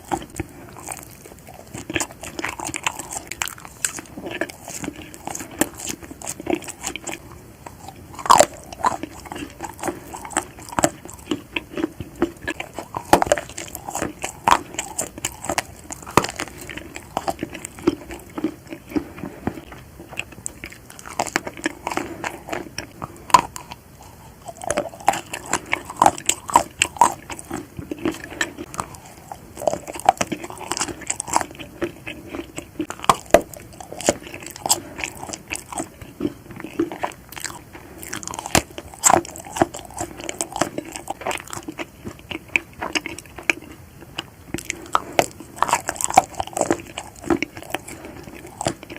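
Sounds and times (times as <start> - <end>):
biting and chewing: 0.0 - 48.9.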